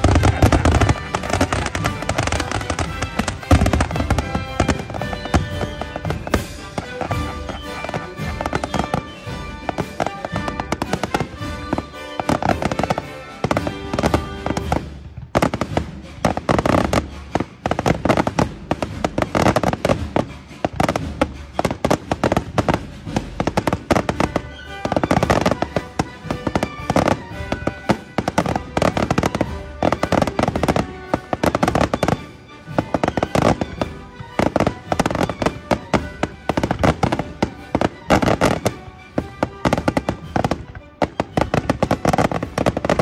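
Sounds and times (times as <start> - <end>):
fireworks crackling and banging: 0.0 - 43.0
music playing: 0.0 - 43.0.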